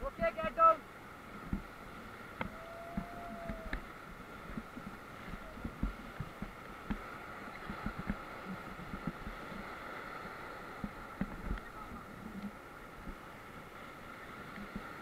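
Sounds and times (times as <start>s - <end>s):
water splashing over boat: 0.0s - 15.0s
whitewater rapids rushing: 0.0s - 15.0s.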